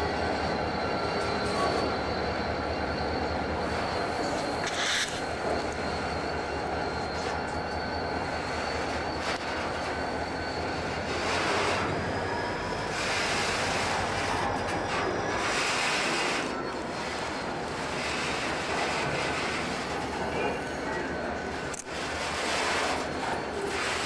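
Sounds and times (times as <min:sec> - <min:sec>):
diesel locomotive rumble: 0:00.0 - 0:24.0
high wheel squeal: 0:00.0 - 0:24.0
train wheels clanking on rails: 0:00.0 - 0:24.0.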